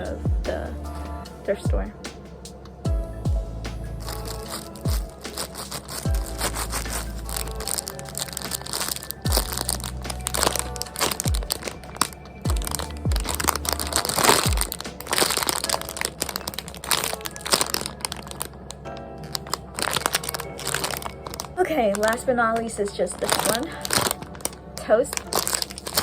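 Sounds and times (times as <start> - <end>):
lofi music with beat: 0.0 - 26.0
plastic packaging crinkling: 4.0 - 26.0.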